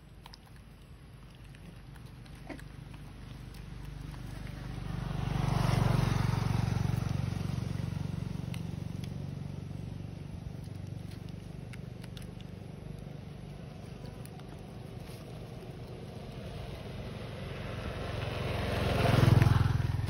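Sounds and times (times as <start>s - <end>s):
vehicle engine passing: 1.1s - 20.0s.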